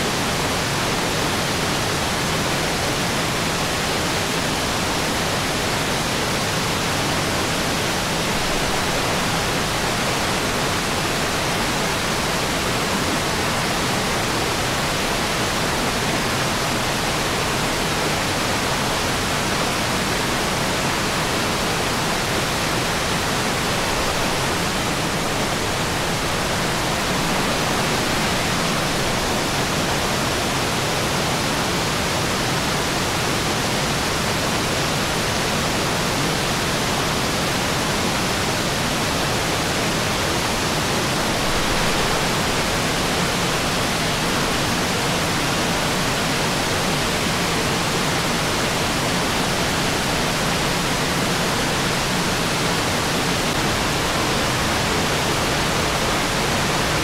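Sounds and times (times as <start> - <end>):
creek rushing over boulders: 0.0 - 57.0.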